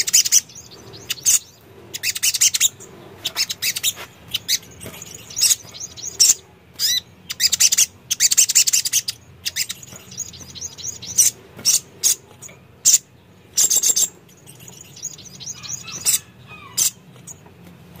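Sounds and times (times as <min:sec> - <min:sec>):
sunbird chirping and trilling: 0:00.0 - 0:17.4.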